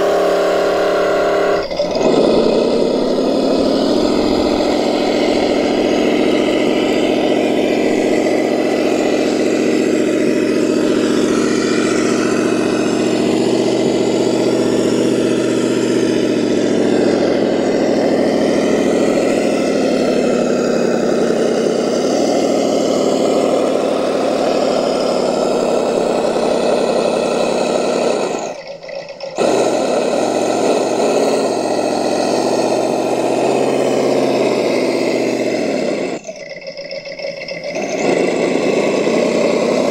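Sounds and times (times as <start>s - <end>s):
engine-like drone: 0.0s - 39.9s.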